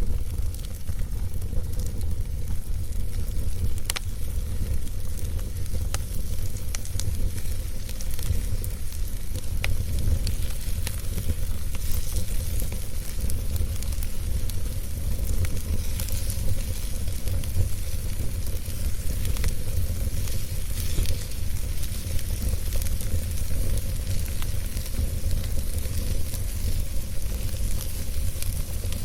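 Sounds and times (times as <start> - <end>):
fire crackles and pops: 0.0 - 29.0
fire rumbling in fireplace: 0.0 - 29.0.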